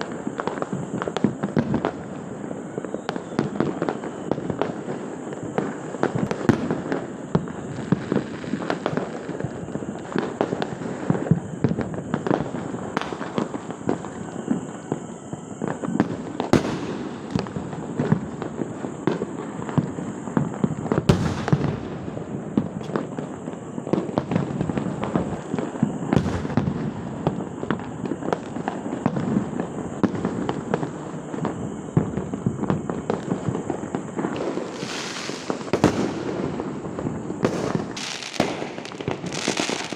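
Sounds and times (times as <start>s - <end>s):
firecrackers crackling: 0.0s - 39.9s
firework hiss: 0.0s - 39.9s
fireworks banging: 0.0s - 39.9s.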